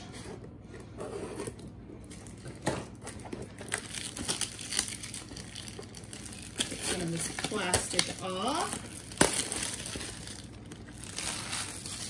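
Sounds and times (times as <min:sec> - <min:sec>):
scissors cutting plastic wrap: 0:01.4 - 0:12.0
plastic wrap crinkling: 0:02.0 - 0:12.0.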